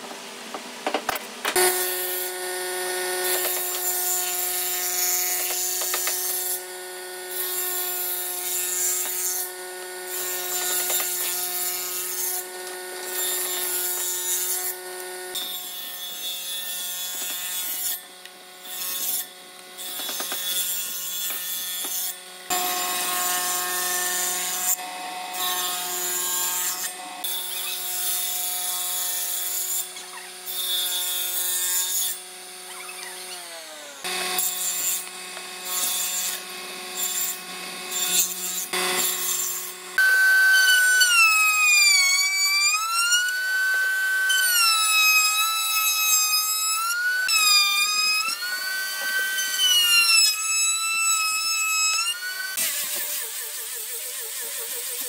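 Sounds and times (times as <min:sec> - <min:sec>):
saw blade cutting wood: 0:01.5 - 0:55.0
table saw motor hum: 0:01.5 - 0:55.0.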